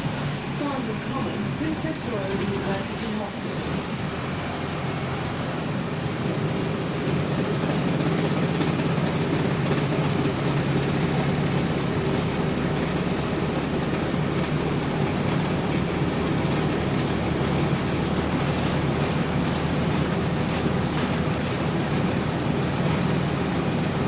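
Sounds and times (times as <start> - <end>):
bus engine drone: 0.0 - 24.0
road noise: 0.0 - 24.0.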